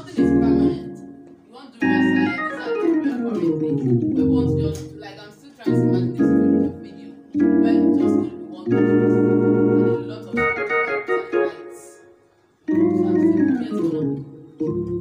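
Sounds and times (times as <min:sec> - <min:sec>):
electronic organ chords: 0:00.0 - 0:15.0.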